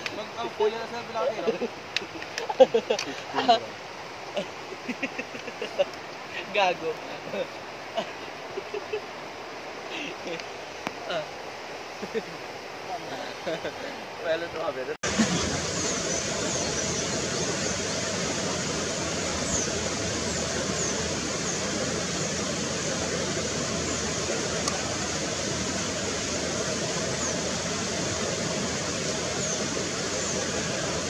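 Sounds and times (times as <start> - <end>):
steady outdoor rushing noise: 0.0 - 31.0.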